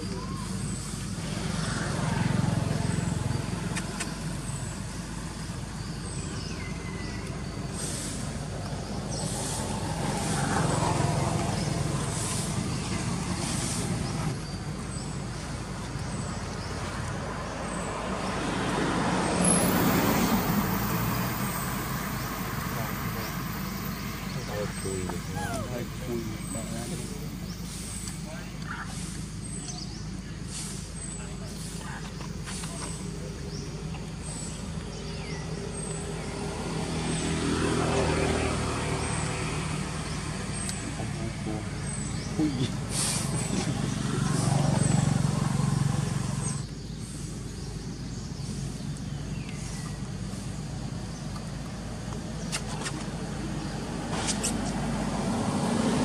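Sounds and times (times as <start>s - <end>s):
road traffic noise: 0.0s - 56.0s
vehicle passing: 0.6s - 56.0s.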